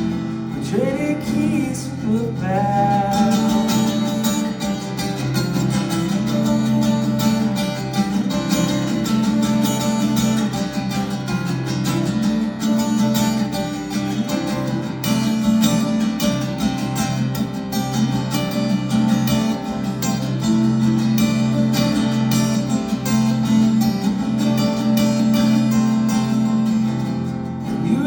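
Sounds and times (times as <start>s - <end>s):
guitar strumming chords: 0.0s - 28.0s.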